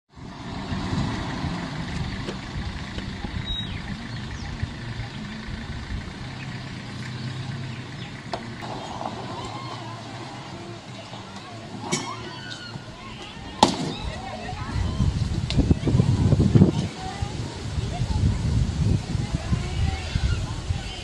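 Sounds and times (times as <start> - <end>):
vehicle engine idling: 0.1 - 21.0.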